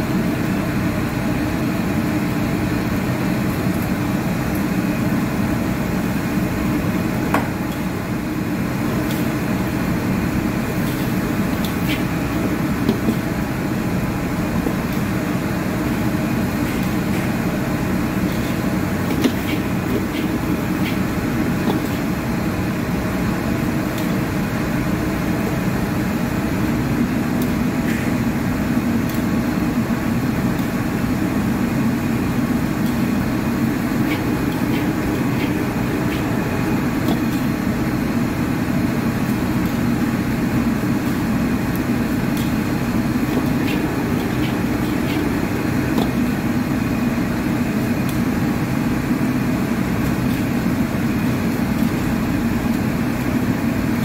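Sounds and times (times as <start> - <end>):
gas burner roaring: 0.0 - 54.0.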